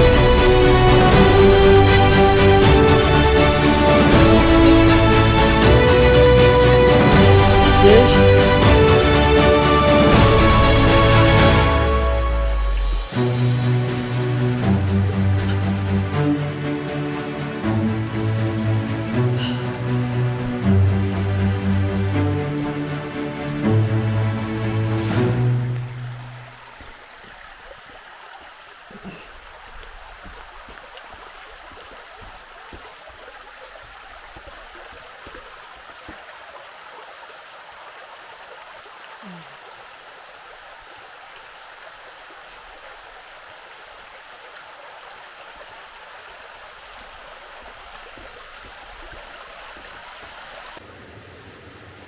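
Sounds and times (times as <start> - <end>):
water flowing in channel: 0.0 - 52.0.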